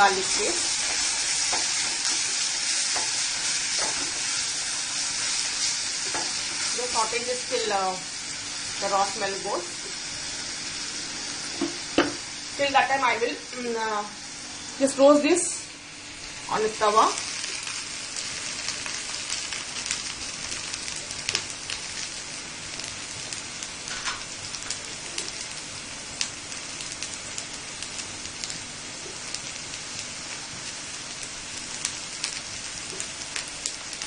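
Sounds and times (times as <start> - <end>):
food sizzling in pans: 0.0 - 34.0.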